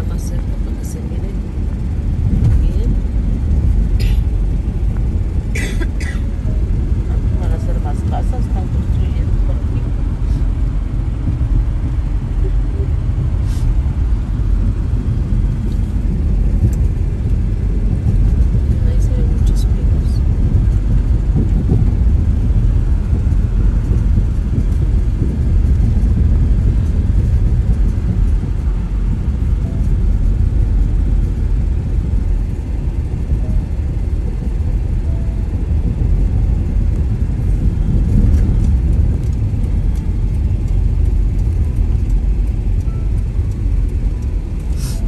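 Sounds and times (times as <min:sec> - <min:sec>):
car driving on paved road: 0:00.0 - 0:45.0.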